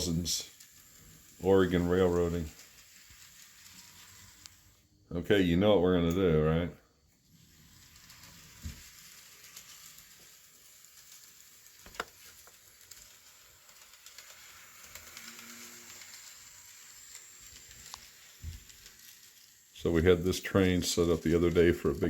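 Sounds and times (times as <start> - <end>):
wheels clicking over rails: 0.0 - 4.8, 7.3 - 22.0
model train whirring on track: 0.0 - 4.9, 7.2 - 22.0.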